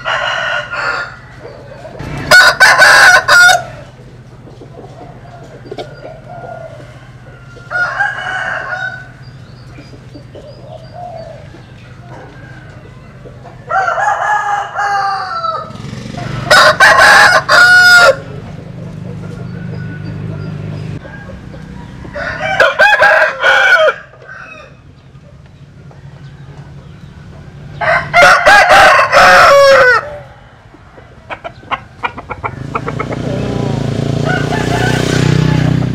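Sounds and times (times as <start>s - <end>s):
roosters crowing: 0.0s - 35.9s.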